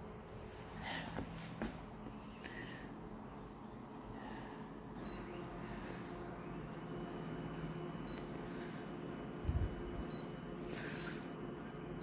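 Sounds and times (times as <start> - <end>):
photocopier low hum: 0.0 - 12.0.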